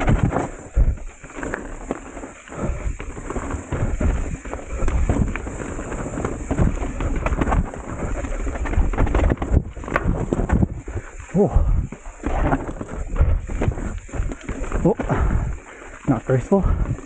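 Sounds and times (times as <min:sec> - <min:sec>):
bike knocks and rattles: 0:00.0 - 0:17.0
tyres crunching over stones: 0:00.0 - 0:17.0
wind buffeting microphone: 0:02.6 - 0:17.0.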